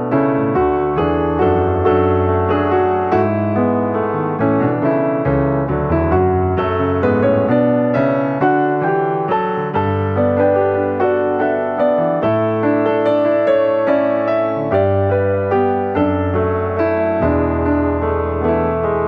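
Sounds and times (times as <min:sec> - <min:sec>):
keyboard playing steady notes: 0:00.0 - 0:19.0.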